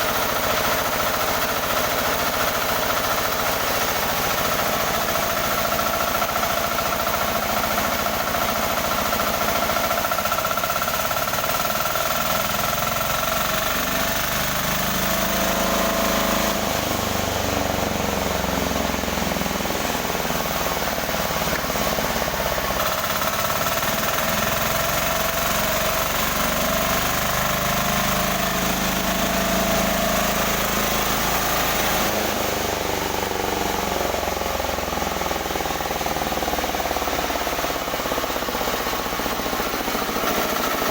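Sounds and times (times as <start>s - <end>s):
sawmill machine drone: 0.0s - 40.9s.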